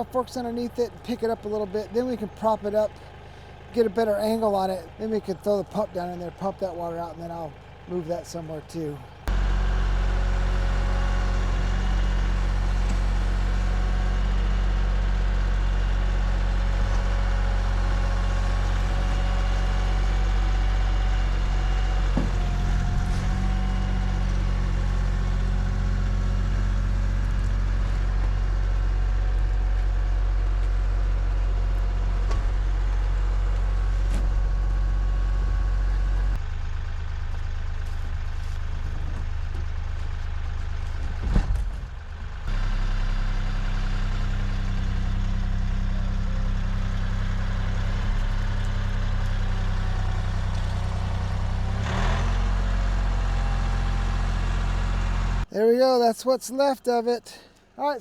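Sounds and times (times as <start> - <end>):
machine engine running steadily: 0.0 - 55.5.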